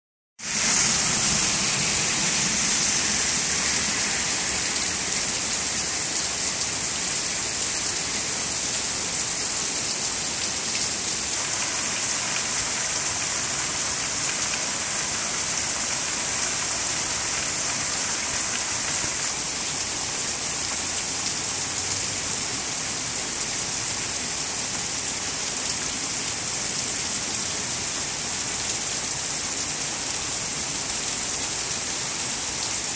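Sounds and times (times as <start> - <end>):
heavy rain falling: 0.4 - 32.9.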